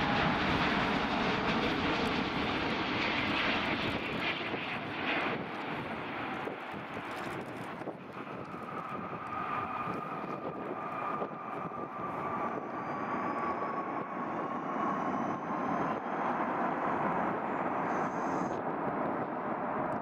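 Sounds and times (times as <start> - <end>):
jet engine whine: 0.0 - 20.0.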